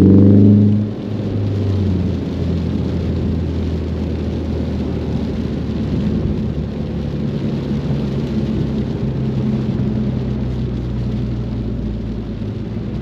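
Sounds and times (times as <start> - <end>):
car engine running: 0.0 - 13.0
tyres hissing on wet road: 0.0 - 13.0.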